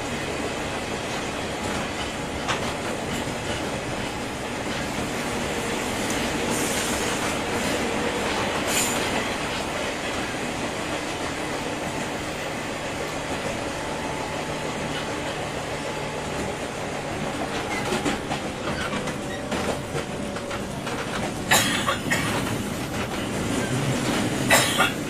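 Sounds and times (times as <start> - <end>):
train rumbling under way: 0.0 - 25.0
wheels clacking over rail joints: 1.1 - 12.1, 12.8 - 25.0.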